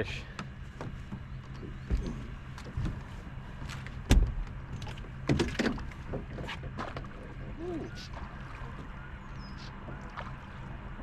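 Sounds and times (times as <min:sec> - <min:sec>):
steady low hum: 0:00.0 - 0:11.0
knocks and thumps against boat: 0:00.1 - 0:10.9.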